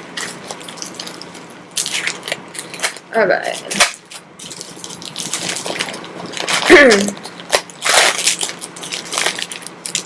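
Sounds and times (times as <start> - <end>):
wrapping tearing and crinkling: 0.1 - 10.0.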